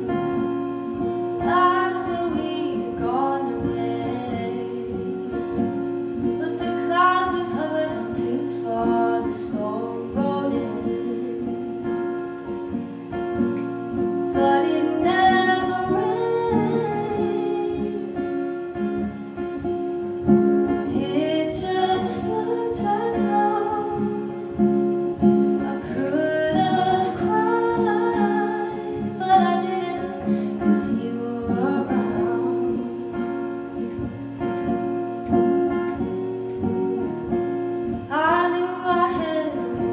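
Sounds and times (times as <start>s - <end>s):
strummed acoustic guitar: 0.0s - 39.9s
woman singing: 0.0s - 39.9s.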